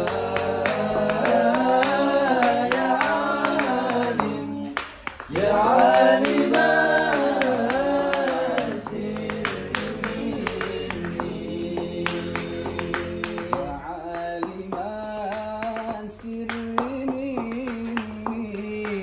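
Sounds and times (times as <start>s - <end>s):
men singing together: 0.0s - 19.0s.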